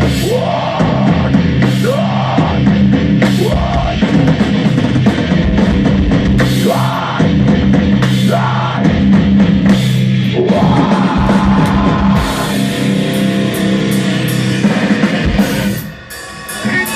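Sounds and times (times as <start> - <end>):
heavy rock band playing: 0.0 - 16.9
pounding drum kit: 0.0 - 16.9.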